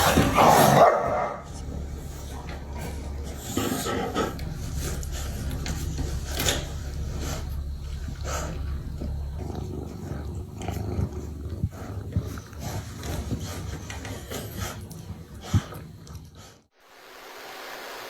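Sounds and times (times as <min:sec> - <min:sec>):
animal growling low: 0:00.0 - 0:16.6.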